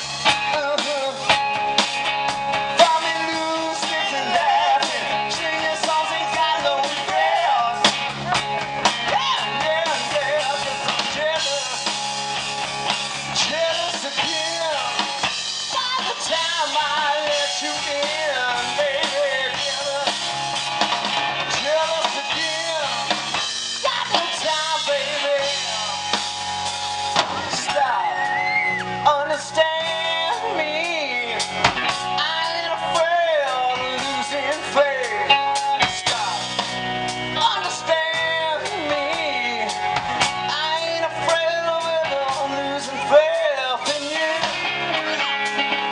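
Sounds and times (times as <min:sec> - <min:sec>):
bass guitar: 0:00.0 - 0:45.9
drum kit: 0:00.0 - 0:45.9
electric lead guitar: 0:00.0 - 0:45.9.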